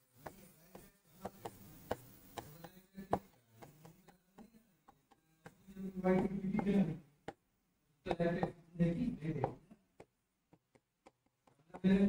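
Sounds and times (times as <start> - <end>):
chalk tapping and scraping on blackboard: 0.0 - 7.4, 8.1 - 12.0.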